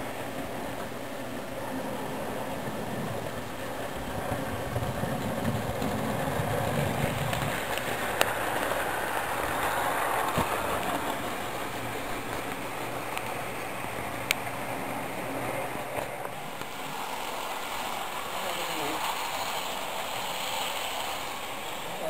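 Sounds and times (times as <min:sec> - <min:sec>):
model train motor hum: 0:00.0 - 0:22.0
wheels rumbling on rails: 0:00.0 - 0:22.0.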